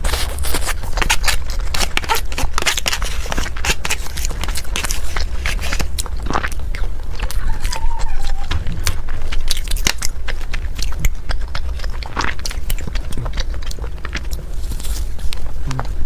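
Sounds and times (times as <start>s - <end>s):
crisp crunches: 0.0s - 16.0s
food being chewed: 0.0s - 16.0s
steady low rumble: 0.0s - 16.0s.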